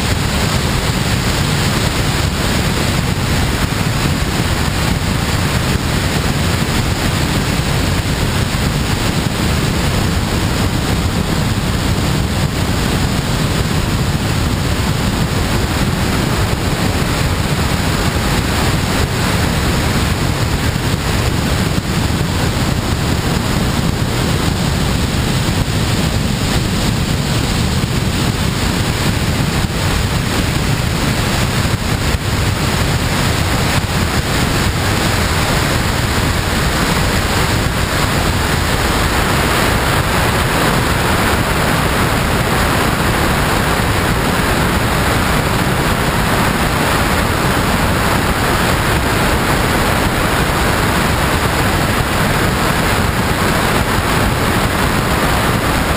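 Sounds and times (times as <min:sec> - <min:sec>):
wind noise on microphone: 0:00.0 - 0:55.9.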